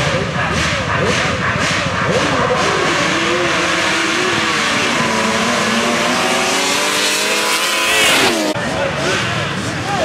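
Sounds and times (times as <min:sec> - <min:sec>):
racing quad engine at full throttle: 0:00.0 - 0:10.0.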